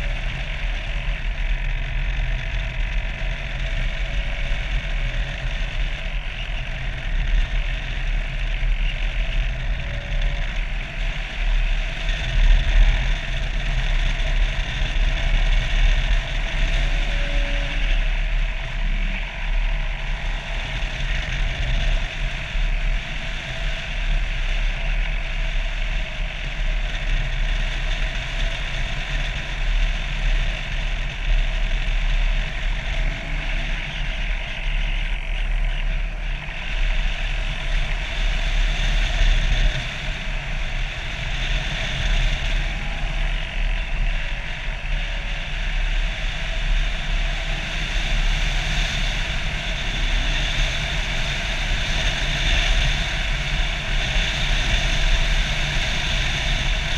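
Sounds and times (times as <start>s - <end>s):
model airplane motor running: 0.0s - 56.9s
wind rumbling on microphone: 0.0s - 56.9s.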